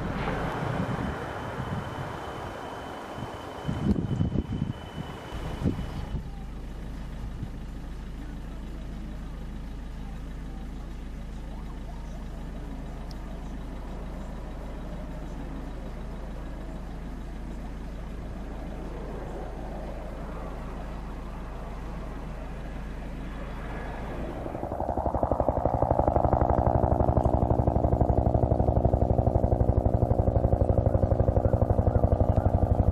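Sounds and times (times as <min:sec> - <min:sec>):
distant jet engines rumbling: 0:00.0 - 0:08.8, 0:11.4 - 0:32.9.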